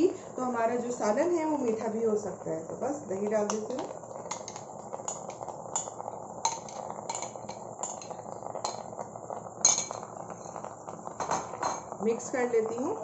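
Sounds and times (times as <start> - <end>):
meat sizzling: 0.0 - 13.0.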